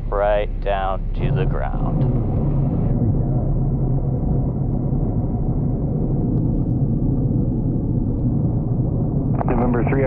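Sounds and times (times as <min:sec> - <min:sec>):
aircraft cockpit rumble: 0:00.0 - 0:10.0.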